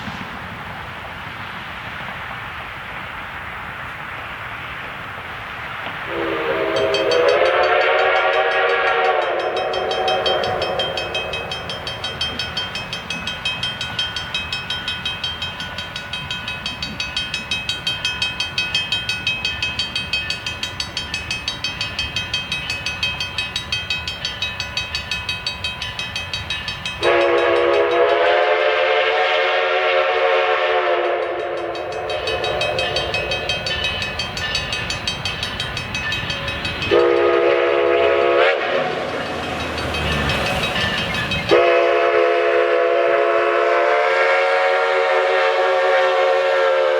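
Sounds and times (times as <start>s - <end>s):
steam locomotive exhaust beats: 0.0s - 46.9s
steam locomotive chime whistle: 6.0s - 46.9s.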